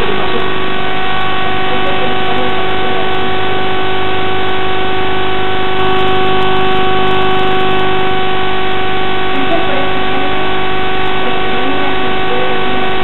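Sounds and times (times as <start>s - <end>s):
loud steady hiss: 0.0s - 13.0s
sustained humming tones: 0.0s - 13.0s.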